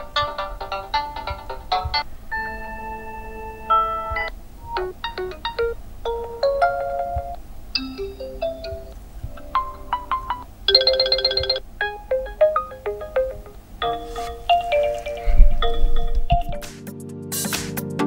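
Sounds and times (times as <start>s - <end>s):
phone ringtone chime melodies: 0.0s - 16.7s
rapid trilling ringtone: 0.0s - 16.7s.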